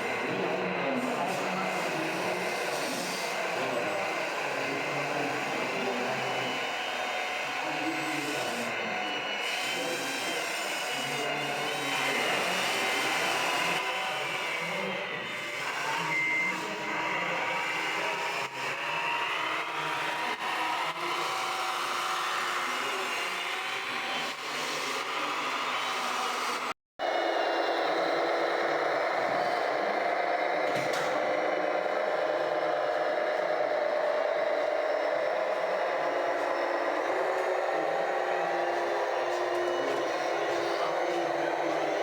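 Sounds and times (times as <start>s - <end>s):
background chatter: 0.0s - 26.7s, 27.6s - 42.0s
small electric motors whining: 0.0s - 42.0s.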